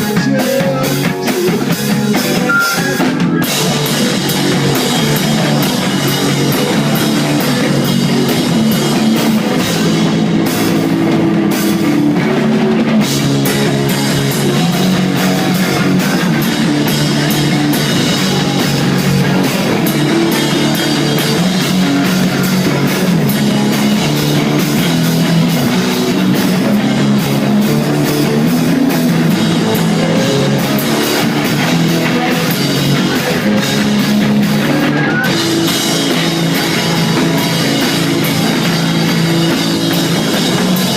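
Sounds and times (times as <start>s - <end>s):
distorted electric guitar: 0.0s - 40.9s
hard-hit drums: 0.0s - 40.9s.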